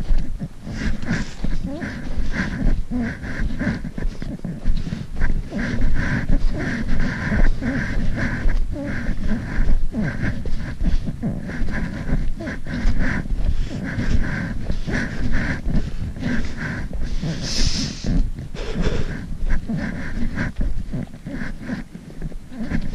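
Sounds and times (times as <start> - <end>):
footsteps crunching in snow: 0.0 - 22.9.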